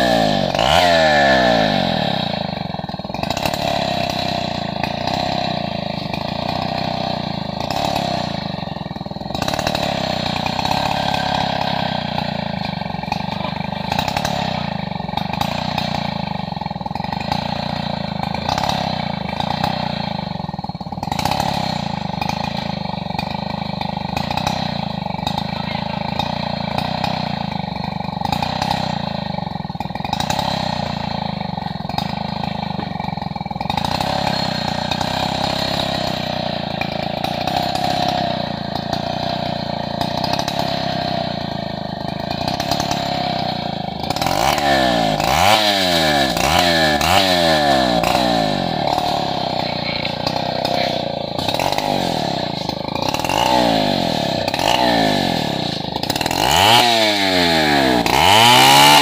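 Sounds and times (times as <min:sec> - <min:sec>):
chainsaw ripping hardwood: 0:00.0 - 0:59.0.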